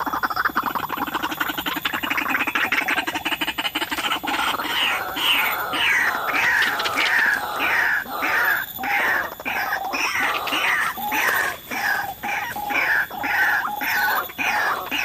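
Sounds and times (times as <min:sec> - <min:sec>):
bird harsh croaking call: 0:00.0 - 0:15.0.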